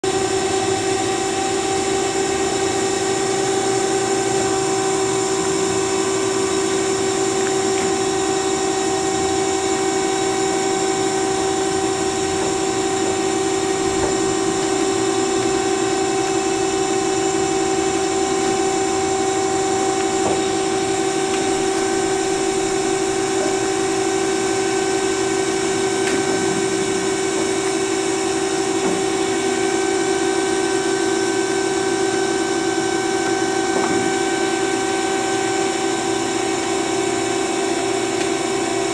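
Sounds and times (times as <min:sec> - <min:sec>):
band saw whining: 0:00.1 - 0:38.9.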